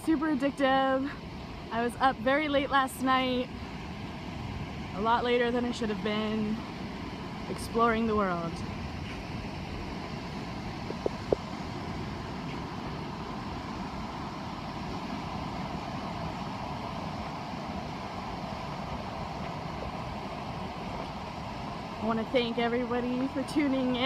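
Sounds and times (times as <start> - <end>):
outdoor ambient noise: 0.0 - 24.0.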